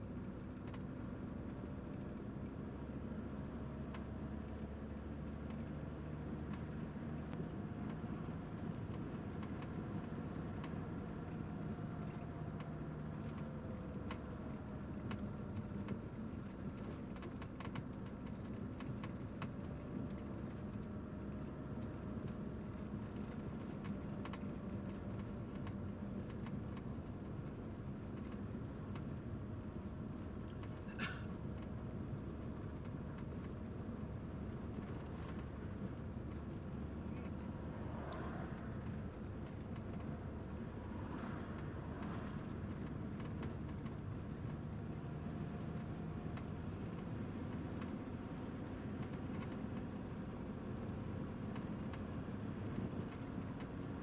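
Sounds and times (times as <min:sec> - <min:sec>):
vehicle engine hum and road noise: 0:00.0 - 0:54.0
light ticks and rattles: 0:03.8 - 0:54.0.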